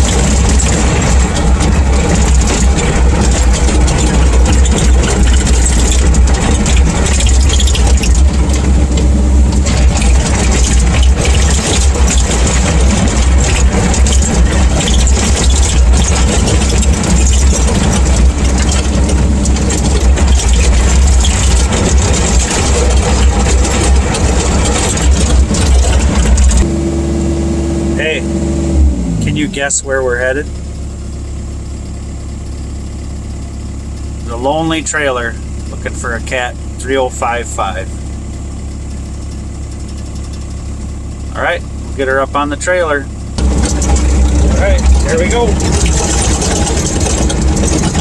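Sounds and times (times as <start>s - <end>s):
excavator diesel engine rattling: 0.0s - 28.4s, 29.0s - 48.0s.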